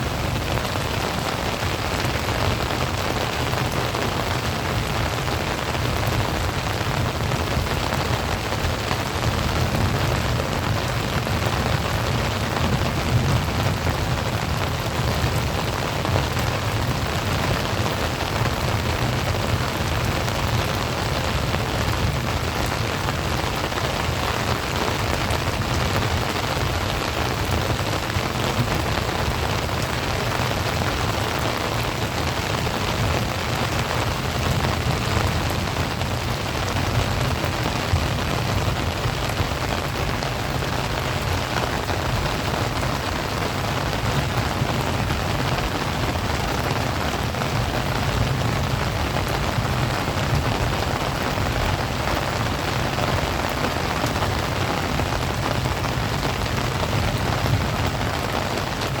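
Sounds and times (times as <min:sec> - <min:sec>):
heavy rain on hard surfaces: 0:00.0 - 0:59.0.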